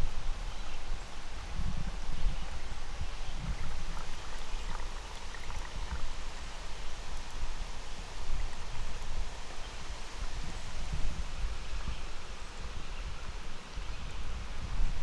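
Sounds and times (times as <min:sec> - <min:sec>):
steady hiss: 0:00.0 - 0:15.0
wind gusting on microphone: 0:00.0 - 0:15.0.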